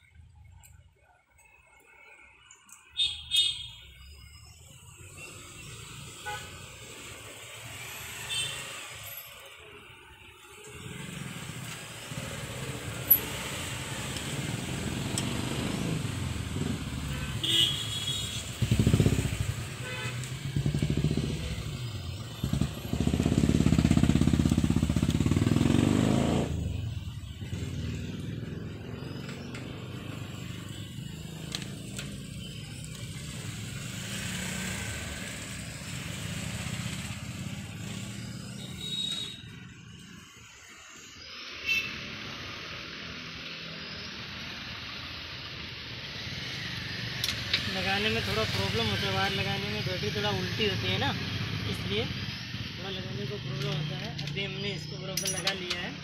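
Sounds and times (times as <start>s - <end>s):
motorcycles and traffic passing: 0.0s - 56.0s.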